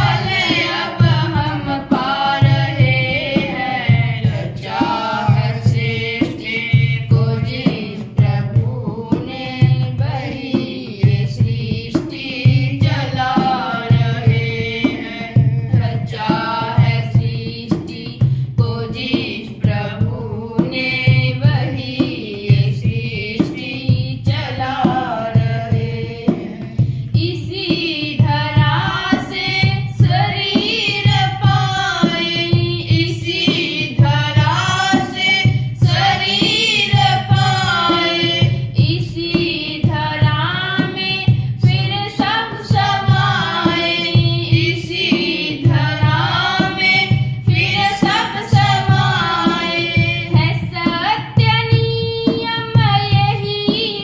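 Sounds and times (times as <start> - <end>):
steady drum beat: 0.0 - 54.0
woman singing: 0.0 - 54.0.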